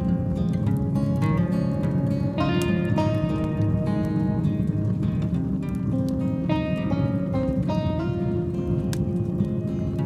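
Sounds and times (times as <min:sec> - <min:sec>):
fire popping: 0:00.0 - 0:10.0
slow melodic music: 0:00.0 - 0:10.0
wood fire crackling: 0:00.0 - 0:10.0.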